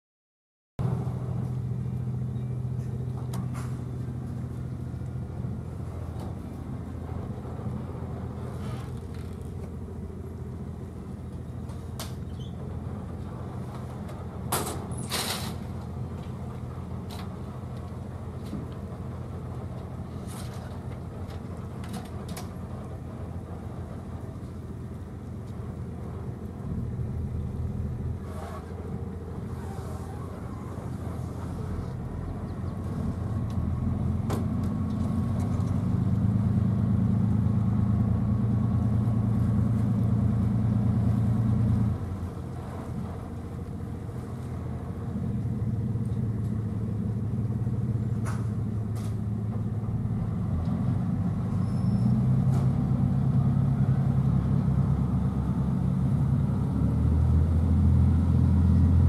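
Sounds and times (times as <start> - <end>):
boat diesel engine idling: 0.8 - 52.2.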